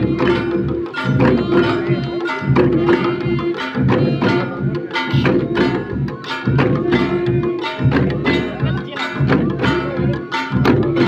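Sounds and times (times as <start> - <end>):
drums beating a dance rhythm: 0.0 - 11.0.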